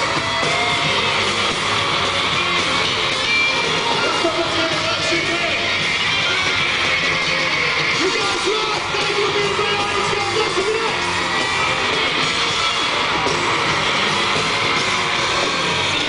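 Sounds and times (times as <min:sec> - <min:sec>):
drums: 0:00.0 - 0:16.0
electric guitar: 0:00.0 - 0:16.0
live pop band playing: 0:00.0 - 0:16.0.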